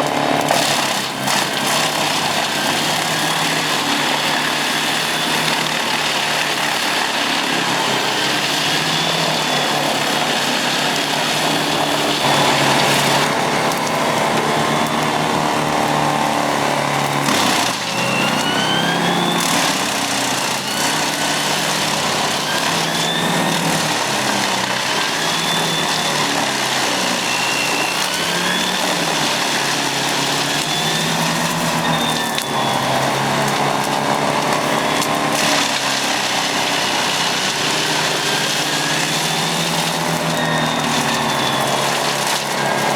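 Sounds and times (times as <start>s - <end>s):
wood chipper running: 0.0s - 42.9s.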